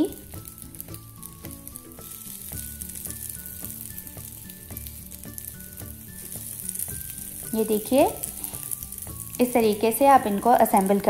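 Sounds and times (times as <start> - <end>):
meat sizzling in hot oil: 0.0 - 11.0
soft background music: 0.0 - 11.0.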